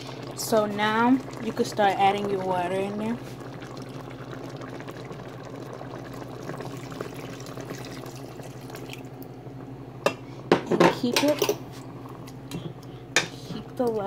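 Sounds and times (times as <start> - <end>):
pot bubbling: 0.0 - 14.0.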